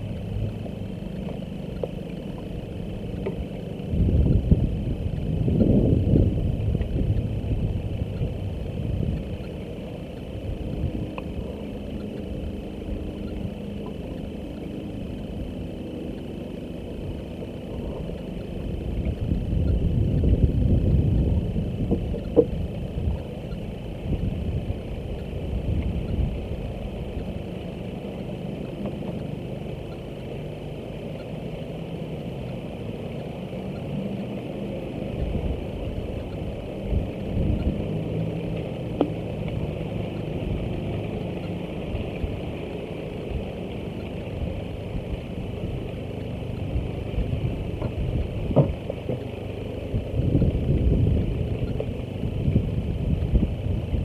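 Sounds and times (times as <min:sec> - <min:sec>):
engine rumbling: 0:00.0 - 0:54.0.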